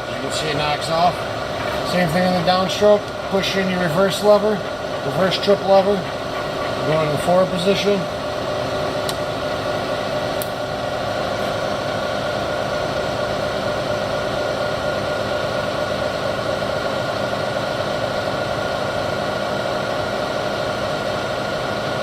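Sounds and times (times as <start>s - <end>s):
milling machine whirring: 0.0s - 22.0s.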